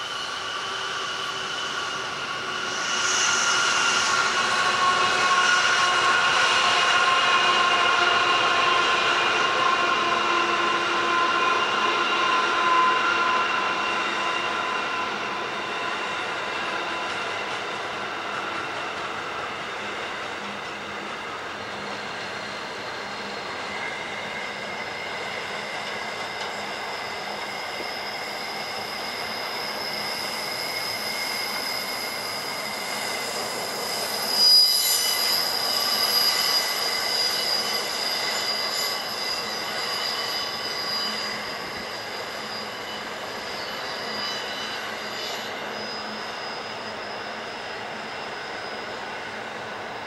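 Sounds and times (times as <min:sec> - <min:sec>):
freight train wheels squealing: 0:00.0 - 0:50.0.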